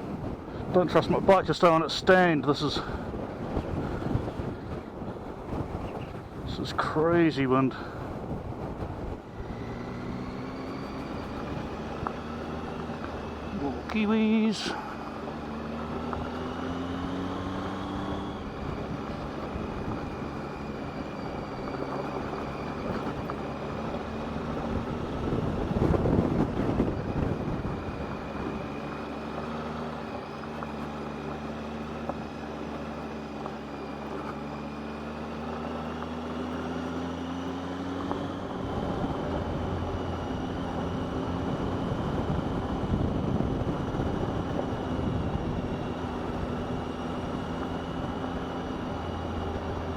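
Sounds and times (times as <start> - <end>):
wind buffeting microphone: 0.0 - 30.8, 36.0 - 49.9
motorcycle engine accelerating: 0.0 - 49.9.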